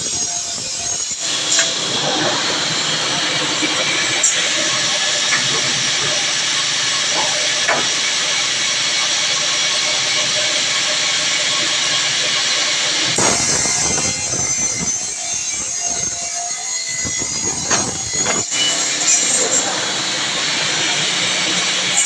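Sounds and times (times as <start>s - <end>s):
woodworking power tool hissing: 0.0s - 22.0s.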